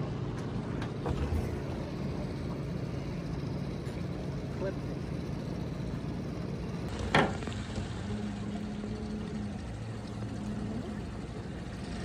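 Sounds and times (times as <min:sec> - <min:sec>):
boat motor low rumble: 0:00.0 - 0:12.0.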